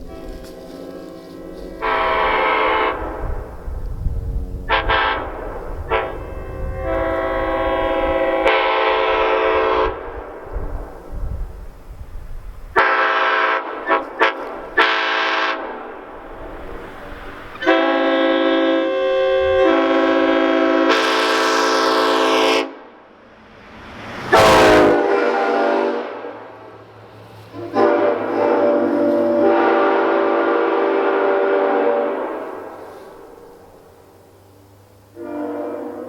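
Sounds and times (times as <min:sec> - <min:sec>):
train air horn blasts: 0:00.0 - 0:11.0, 0:12.7 - 0:23.0, 0:24.3 - 0:34.1, 0:35.1 - 0:36.0.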